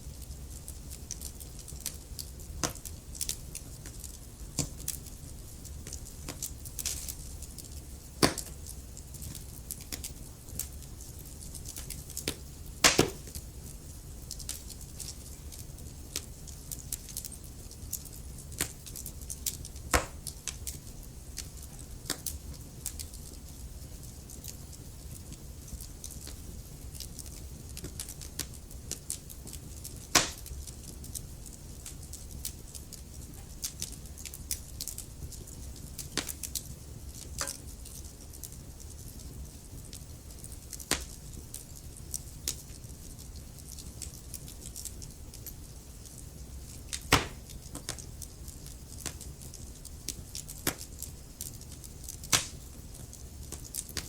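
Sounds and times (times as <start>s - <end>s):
burning wood crackling and popping: 0.0s - 54.0s
fire rumbling: 0.0s - 54.0s.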